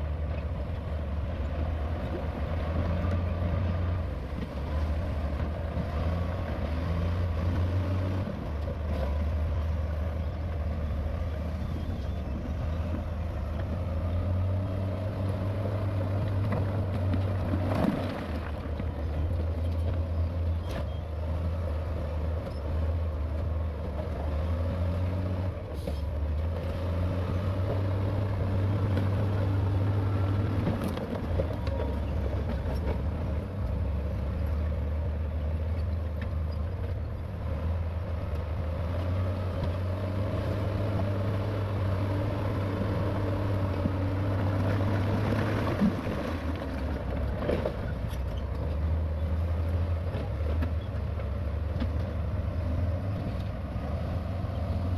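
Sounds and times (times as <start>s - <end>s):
diesel machinery rumbling: 0.0s - 54.9s.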